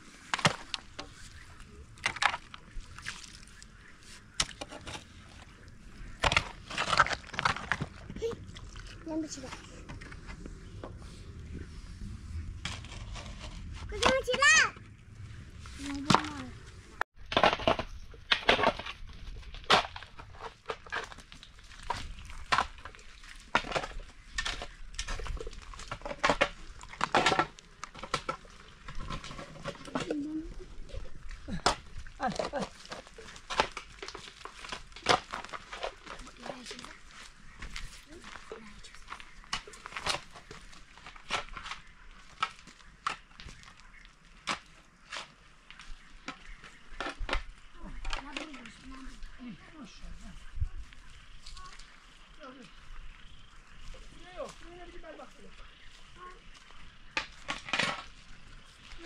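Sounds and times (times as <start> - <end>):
dry crunching and cracking: 0.0 - 10.4, 17.2 - 59.0.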